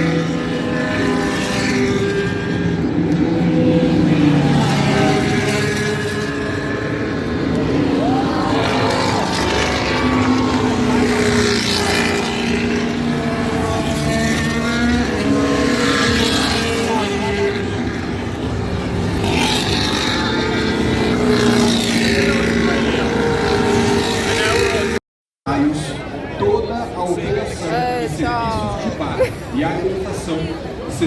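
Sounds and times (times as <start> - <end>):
background engine noise: 0.0 - 31.0
race cars passing: 0.0 - 31.0.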